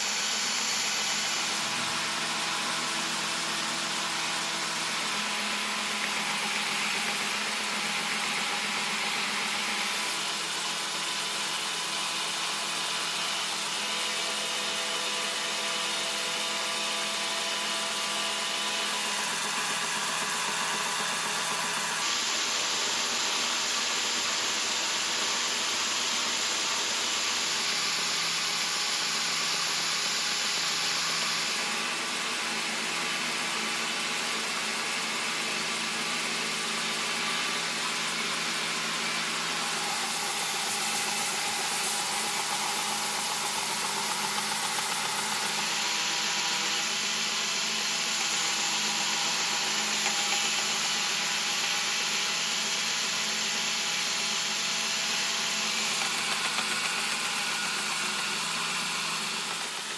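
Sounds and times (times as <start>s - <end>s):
grinder whirring on knife blade: 0.0s - 59.9s.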